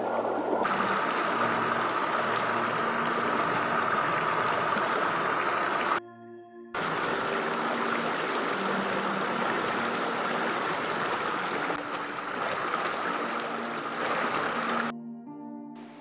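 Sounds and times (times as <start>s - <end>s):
stream rushing over rocks: 0.0s - 6.0s, 6.8s - 14.9s.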